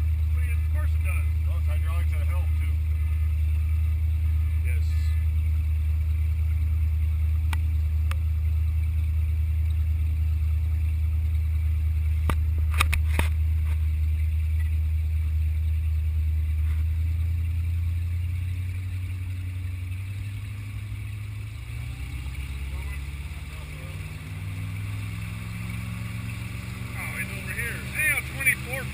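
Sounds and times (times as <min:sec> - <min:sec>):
powerboat engine running: 0:00.0 - 0:28.9.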